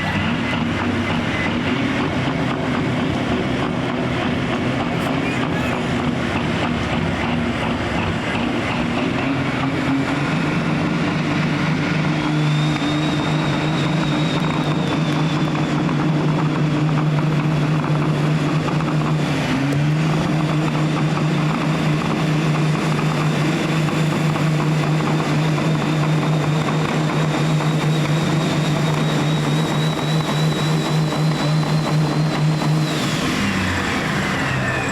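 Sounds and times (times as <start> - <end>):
diesel engine at high revs: 0.0 - 34.9
high whine: 0.0 - 34.9.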